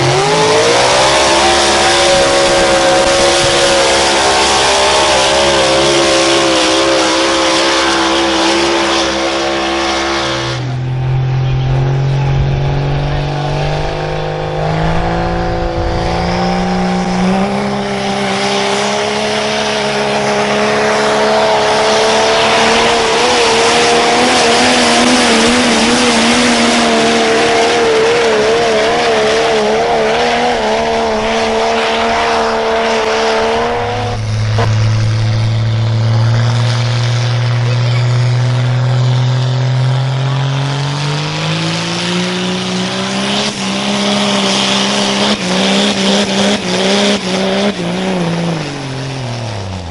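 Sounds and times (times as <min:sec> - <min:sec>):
engine running hard under load: 0:00.0 - 0:49.9.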